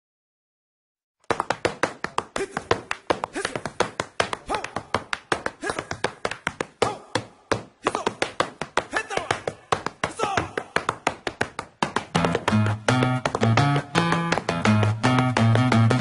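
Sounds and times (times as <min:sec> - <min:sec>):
hands clapping in rhythm: 0:01.2 - 0:16.0.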